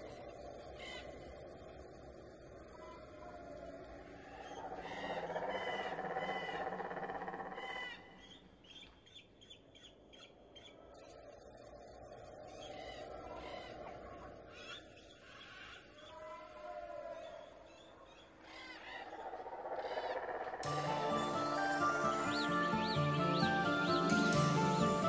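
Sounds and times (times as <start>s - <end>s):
birds calling and chirping: 0.0s - 25.0s.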